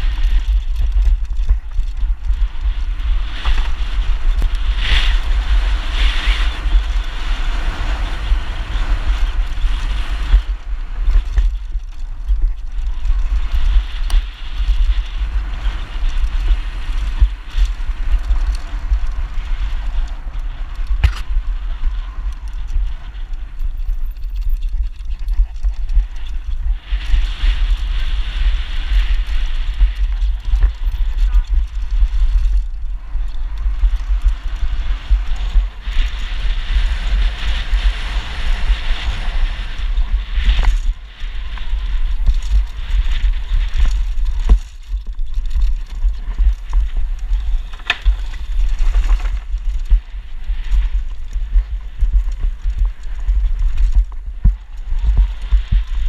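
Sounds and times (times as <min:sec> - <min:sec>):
bike rattling and knocking: 0:00.0 - 0:56.0
tyre noise on dirt trail: 0:00.0 - 0:56.0
wind buffeting microphone: 0:00.0 - 0:56.0.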